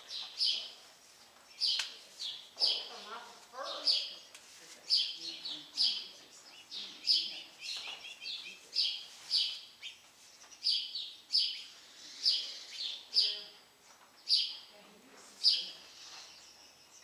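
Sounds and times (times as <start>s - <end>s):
small bird chirping: 0.0s - 4.3s, 4.9s - 14.8s, 15.4s - 17.0s.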